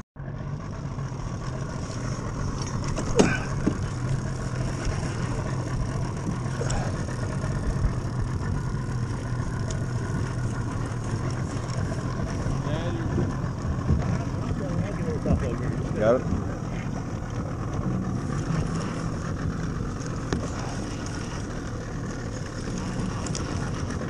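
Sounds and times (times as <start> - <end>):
outboard motor humming: 0.2 - 24.0.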